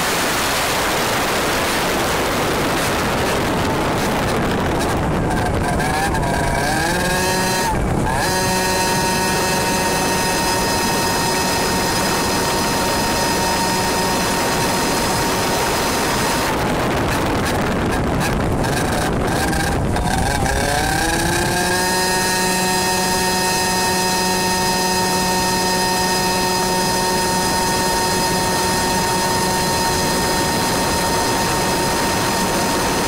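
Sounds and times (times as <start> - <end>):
wind rush: 0.0 - 33.0
two-stroke kart engine revving: 0.8 - 33.0.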